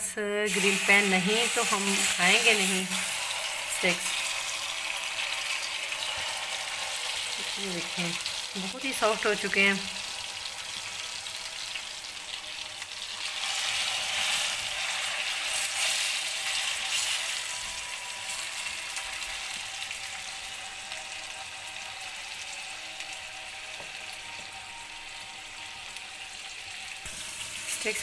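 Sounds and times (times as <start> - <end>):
steaks sizzling on a griddle: 0.5 - 28.0.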